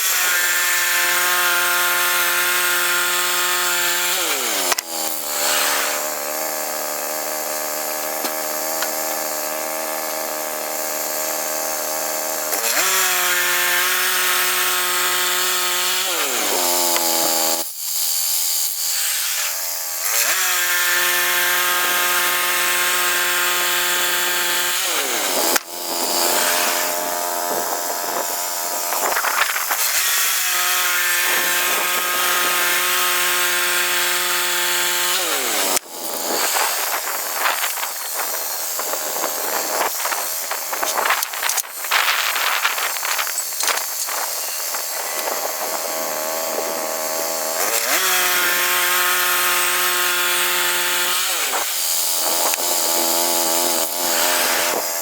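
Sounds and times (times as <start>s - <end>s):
saw blade rasping through log: 0.0s - 55.0s.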